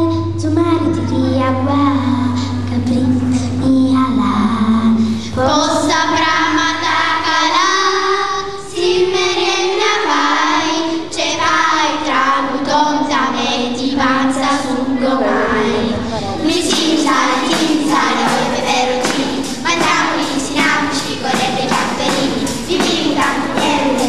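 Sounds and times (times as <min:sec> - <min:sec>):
children singing: 0:00.0 - 0:24.0.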